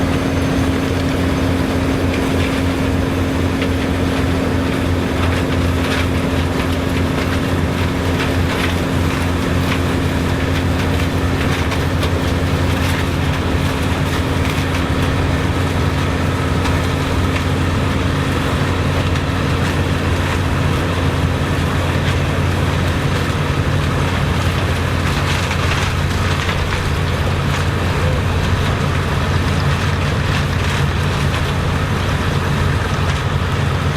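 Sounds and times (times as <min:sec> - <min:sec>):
engine droning: 0:00.0 - 0:33.9.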